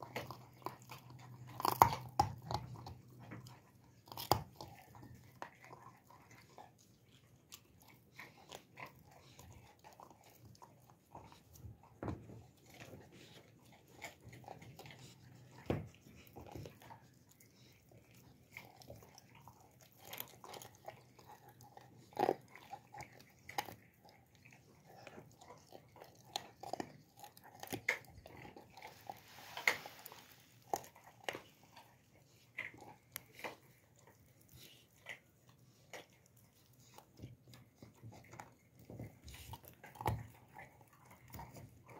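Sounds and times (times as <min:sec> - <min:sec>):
puppy chewing raw meat: 0:00.0 - 0:41.9.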